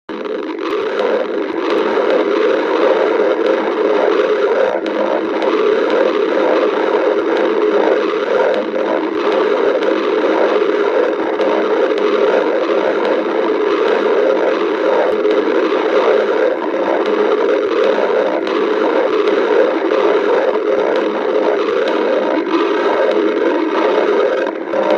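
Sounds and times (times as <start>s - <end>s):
stomach growling: 0.1s - 24.9s.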